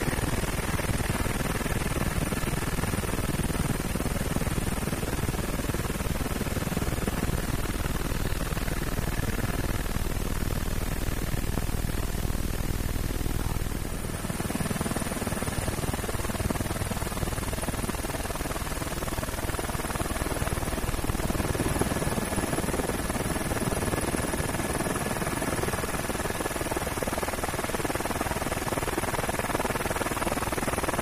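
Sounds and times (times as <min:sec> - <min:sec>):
helicopter running from aboard: 0:00.0 - 0:31.0.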